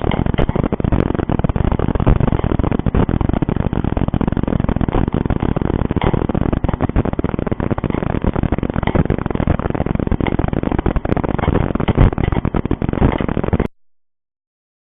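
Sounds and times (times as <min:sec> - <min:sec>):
crackling and scraping on microphone: 0:00.0 - 0:13.7.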